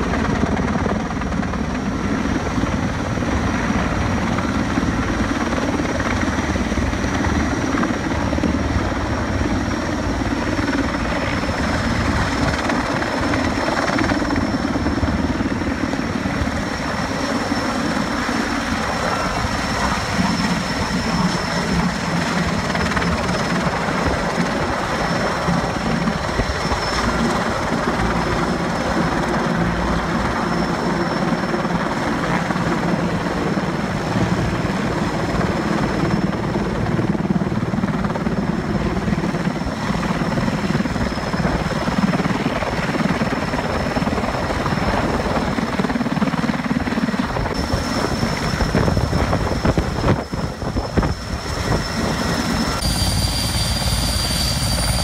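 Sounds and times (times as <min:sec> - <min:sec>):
helicopter high whine: 0:00.0 - 0:55.0
helicopter rotor and engine: 0:00.0 - 0:55.0.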